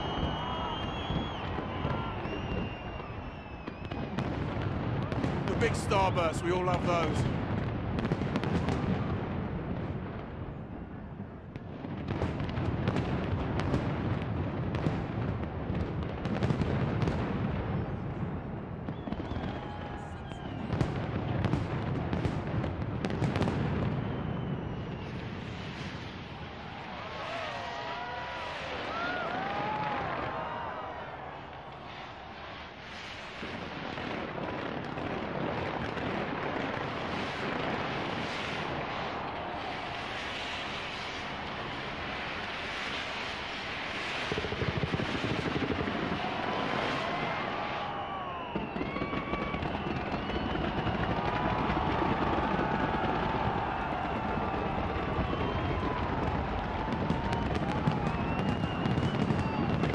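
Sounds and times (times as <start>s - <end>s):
fireworks bangs and booms: 0.0s - 59.9s
fireworks crackling: 0.0s - 59.9s.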